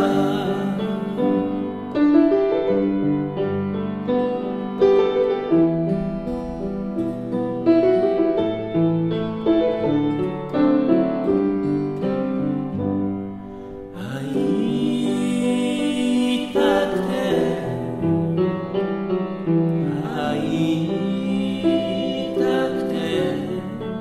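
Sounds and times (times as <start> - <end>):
slow gentle piano: 0.0 - 24.0.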